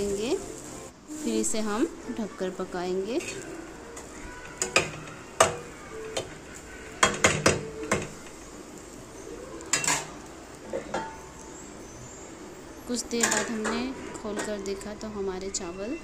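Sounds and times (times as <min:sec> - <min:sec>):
faint sizzle: 0:00.0 - 0:16.0.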